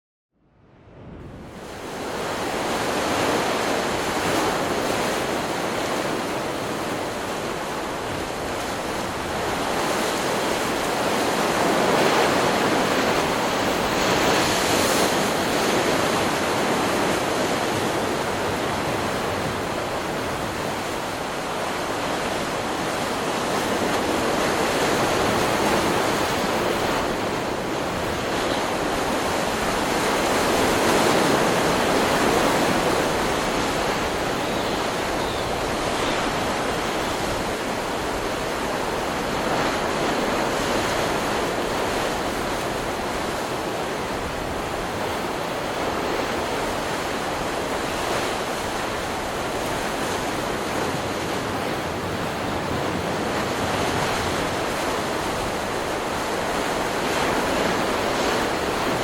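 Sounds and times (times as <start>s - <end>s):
waves breaking on a beach: 0.7s - 59.0s.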